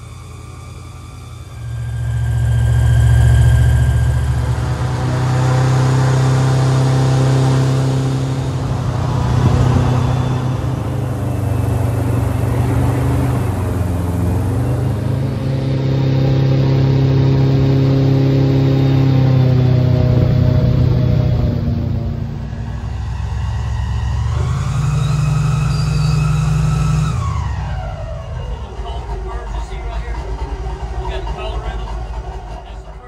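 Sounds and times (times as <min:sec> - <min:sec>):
airboat engine drone: 0:00.0 - 0:33.0.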